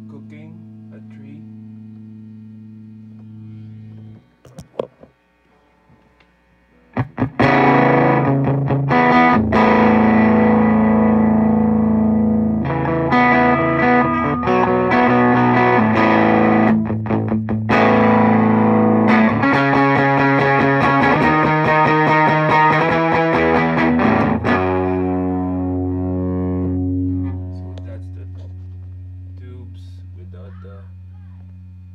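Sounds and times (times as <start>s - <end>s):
distorted electric guitar chords: 0.0s - 31.9s.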